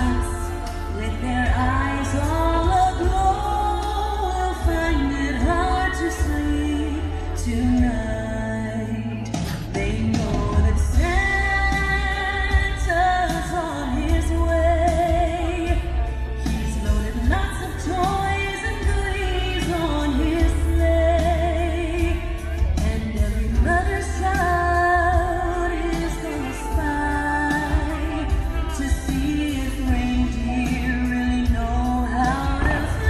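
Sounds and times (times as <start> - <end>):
band with heavy bass: 0.0 - 33.0
person singing with vibrato: 0.0 - 33.0.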